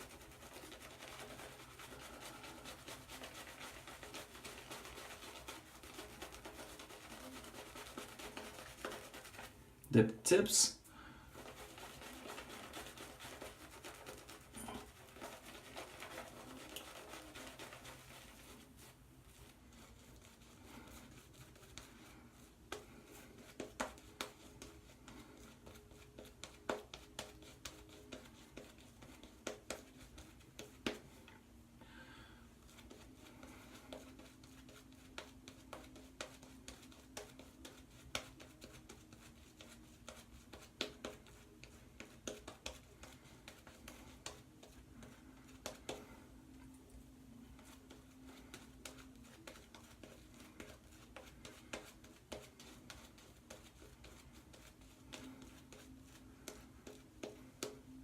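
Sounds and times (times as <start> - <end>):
shaving brush swishing lather: 0.0 - 31.2, 32.6 - 46.2, 47.4 - 58.0.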